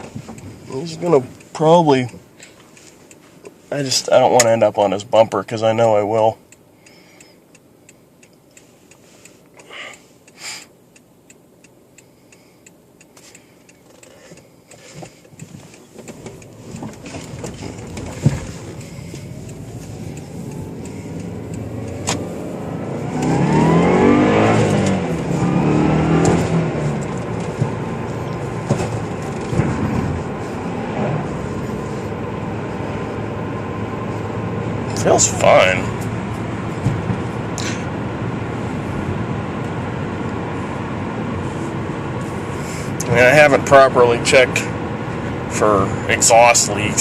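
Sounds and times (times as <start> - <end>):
car engine accelerating: 0.0 - 7.0, 12.8 - 47.0.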